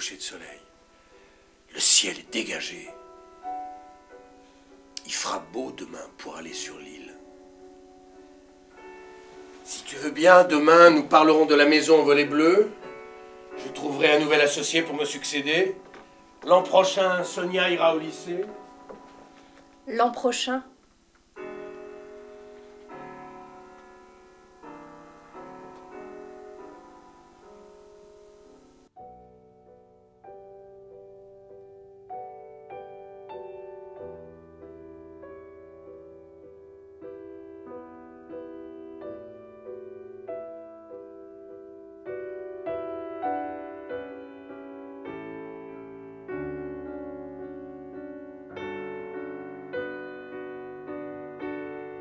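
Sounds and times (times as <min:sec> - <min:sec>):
background hiss: 0:00.0 - 0:52.0
slow piano chords: 0:00.0 - 0:52.0.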